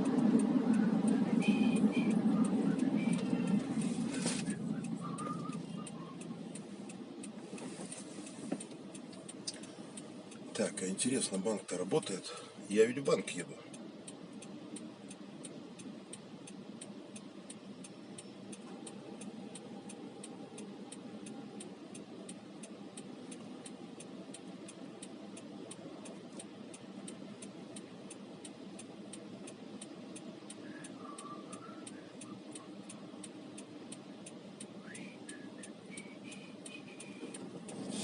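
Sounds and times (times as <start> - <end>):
car engine and road noise: 0.0 - 38.0
regular light ticking: 0.0 - 38.0.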